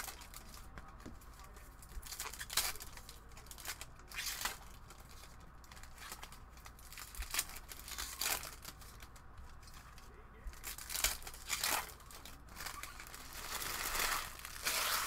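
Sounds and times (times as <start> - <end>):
foil wrappers tearing and crinkling: 0.0 - 0.7, 1.4 - 15.0.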